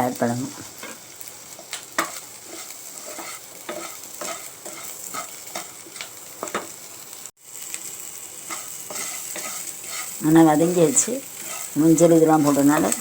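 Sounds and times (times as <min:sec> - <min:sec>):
onions sizzling in oil: 0:00.0 - 0:13.0
spoon scraping a pan: 0:00.7 - 0:06.7, 0:08.4 - 0:13.0.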